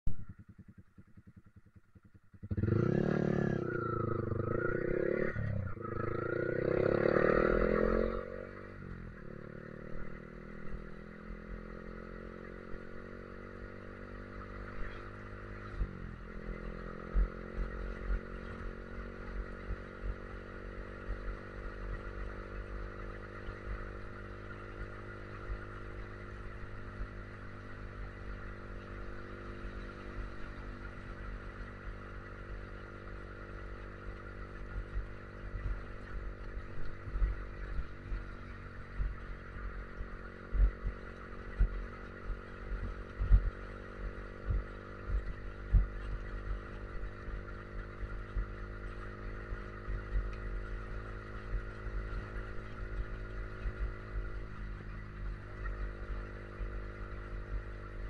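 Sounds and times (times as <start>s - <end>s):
motorcycle engine revving: 0.1s - 58.0s.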